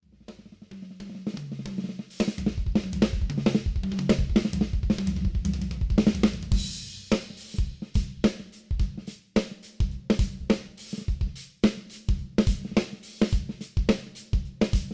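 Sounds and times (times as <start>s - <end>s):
drum kit playing: 0.3s - 14.9s.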